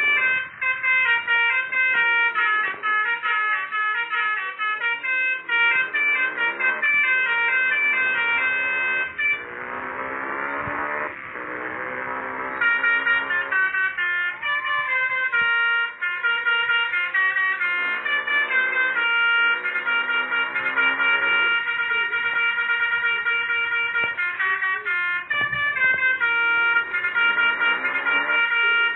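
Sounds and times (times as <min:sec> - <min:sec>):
musical horn playing a tune: 0:00.0 - 0:28.9.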